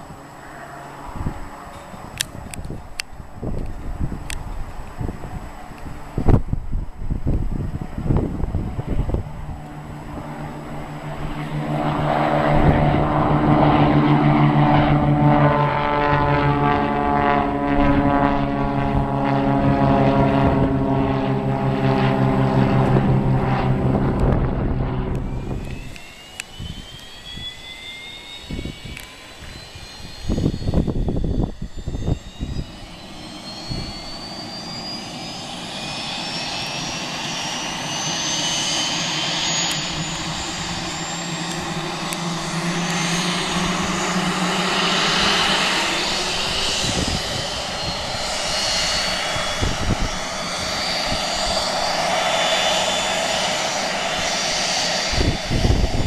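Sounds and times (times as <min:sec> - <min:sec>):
jet engine turbine whine: 0:00.0 - 0:56.0
wind gusts on microphone: 0:00.0 - 0:56.0.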